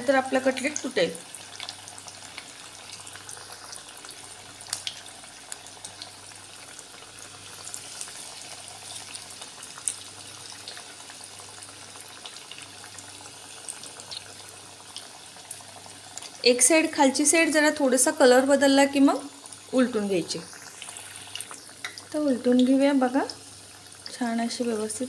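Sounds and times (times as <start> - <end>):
food frying in hot oil: 0.0 - 25.0.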